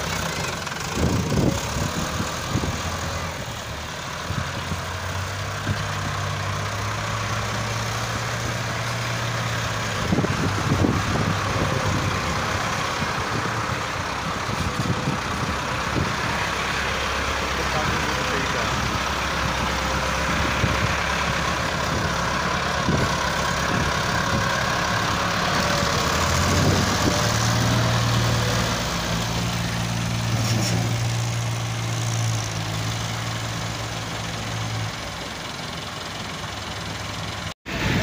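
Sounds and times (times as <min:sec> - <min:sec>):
tractor diesel engine drone: 0:00.0 - 0:38.0.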